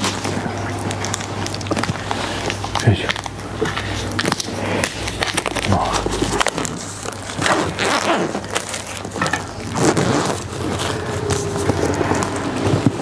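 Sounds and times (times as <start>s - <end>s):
plastic shrink-wrap crinkling: 0.0s - 13.0s.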